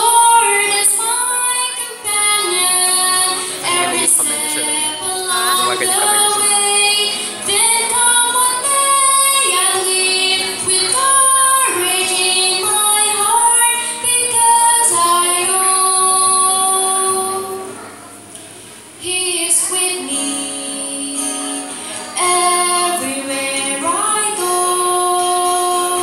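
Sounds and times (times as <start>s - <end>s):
girl singing: 0.0s - 17.8s, 19.0s - 26.0s.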